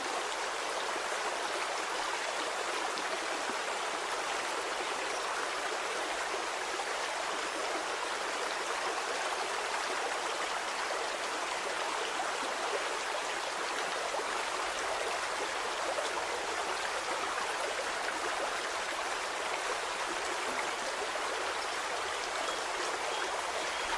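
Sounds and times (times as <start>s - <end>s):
stream babbling: 0.0s - 23.9s.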